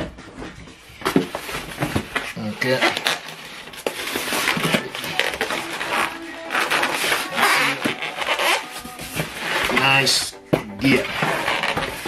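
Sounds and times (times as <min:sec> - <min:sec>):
polystyrene foam rubbing and scraping: 0:01.3 - 0:10.2, 0:10.8 - 0:12.0.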